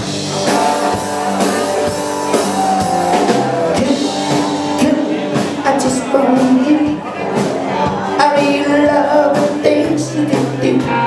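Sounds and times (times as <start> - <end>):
live rock band playing: 0.0 - 11.0
man singing: 1.4 - 11.0.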